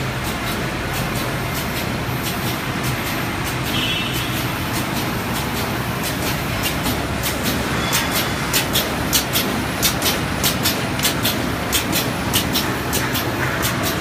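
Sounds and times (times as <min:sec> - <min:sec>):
die cutting machine running: 0:00.0 - 0:14.0
sharp machine clicks: 0:00.1 - 0:14.0.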